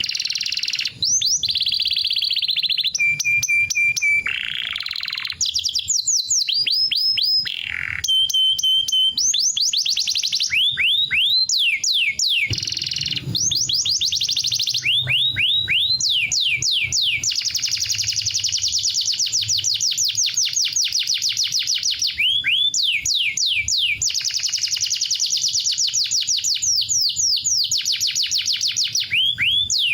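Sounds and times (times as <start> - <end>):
canary singing trills: 0.0 - 29.9.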